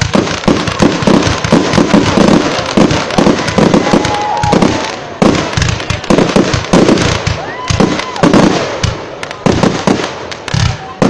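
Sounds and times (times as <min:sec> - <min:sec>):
firework whistling: 0:00.0 - 0:09.0
fireworks bangs and crackles: 0:00.0 - 0:11.0.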